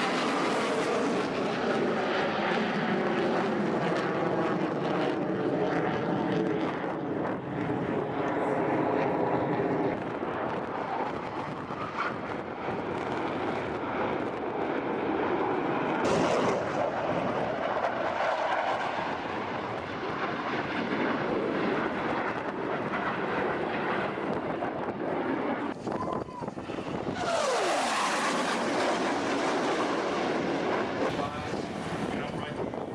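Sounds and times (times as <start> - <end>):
aircraft engine rushing: 0.0 - 32.9.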